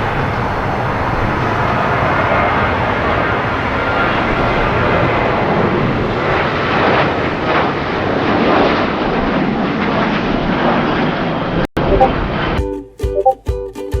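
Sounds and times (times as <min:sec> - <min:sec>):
aircraft engine running: 0:00.0 - 0:12.6.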